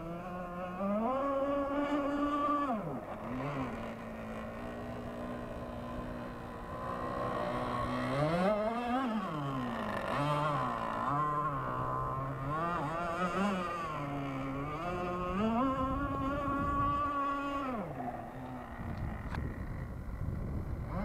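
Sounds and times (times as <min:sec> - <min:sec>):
model boat engine revving: 0:00.0 - 0:21.0.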